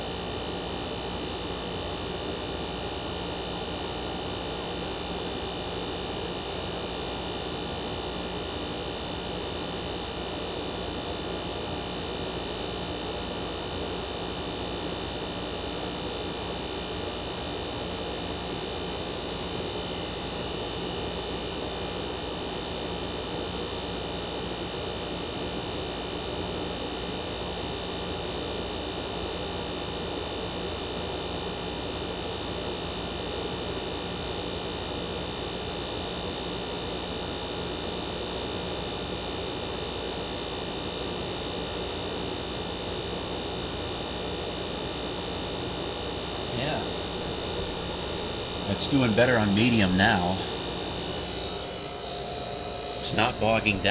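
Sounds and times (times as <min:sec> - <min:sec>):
window air conditioner running: 0:00.0 - 0:53.9.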